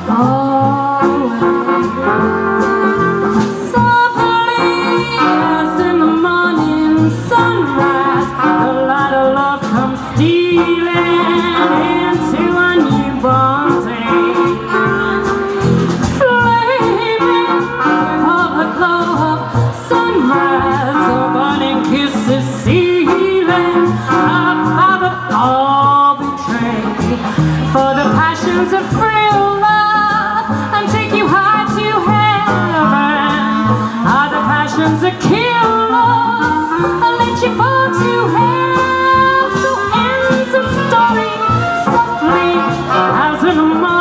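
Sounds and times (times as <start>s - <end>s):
clarinet: 0.0s - 44.0s
swing jazz band playing: 0.0s - 44.0s
trumpet: 0.0s - 44.0s.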